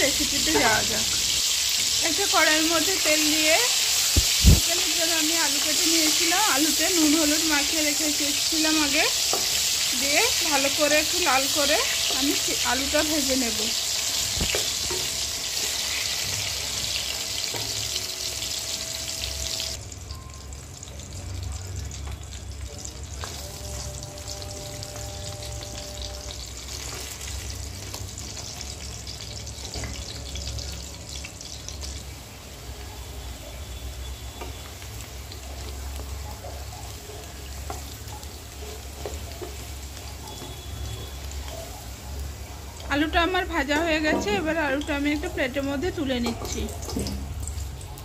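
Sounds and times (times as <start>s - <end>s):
potatoes sizzling in hot oil: 0.0s - 48.0s.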